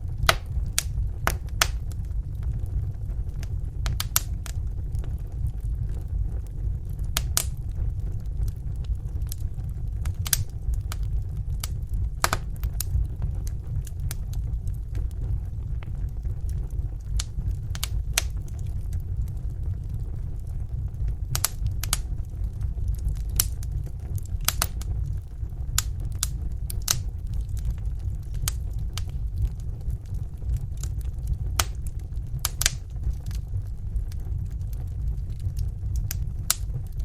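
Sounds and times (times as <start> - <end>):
fire popping and snapping: 0.0 - 37.0
low rumble of fire: 0.0 - 37.0.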